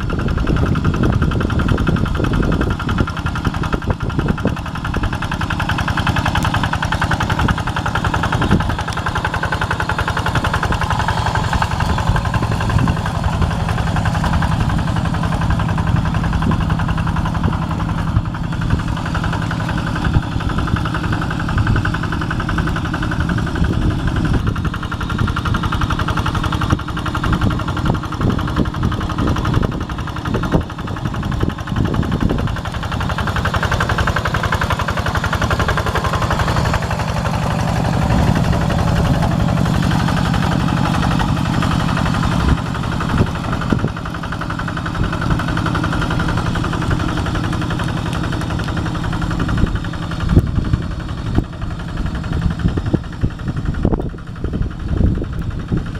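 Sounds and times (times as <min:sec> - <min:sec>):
tractor diesel engine chugging: 0:00.0 - 0:55.9.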